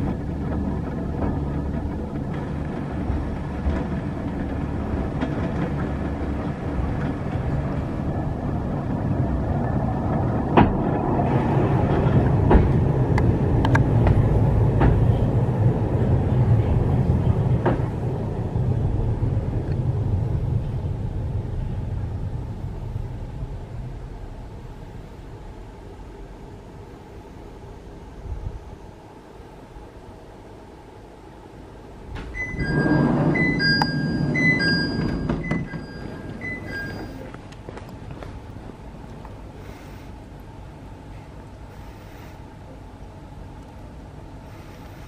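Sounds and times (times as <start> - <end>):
cable car rumbling on rails: 0.0 - 45.0.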